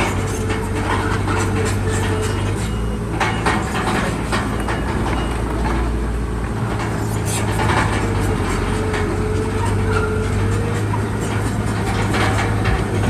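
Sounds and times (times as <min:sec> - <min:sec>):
diesel engine running under load: 0:00.0 - 0:13.0
metallic clanks and knocks: 0:00.0 - 0:13.0.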